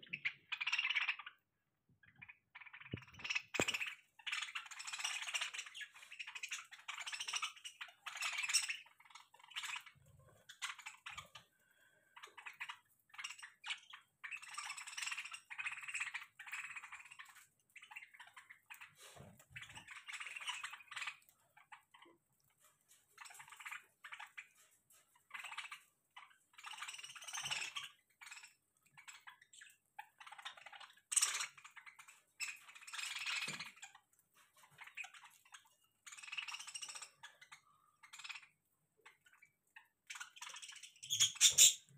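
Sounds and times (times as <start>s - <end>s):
budgerigars chattering and warbling: 0.0s - 1.4s, 2.0s - 22.2s, 23.1s - 41.9s
birds pecking and cracking seed: 2.1s - 41.9s.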